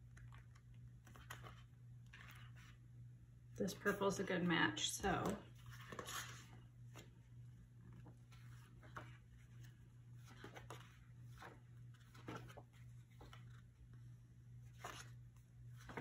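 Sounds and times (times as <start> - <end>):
paper pages rustling and turning: 0.0 - 3.0, 5.0 - 16.0
low steady hum: 0.0 - 16.0.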